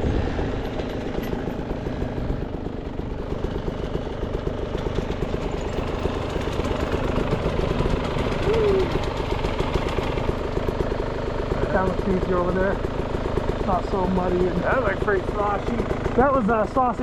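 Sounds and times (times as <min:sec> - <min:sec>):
two-stroke dirt bike engine: 0:00.0 - 0:17.0.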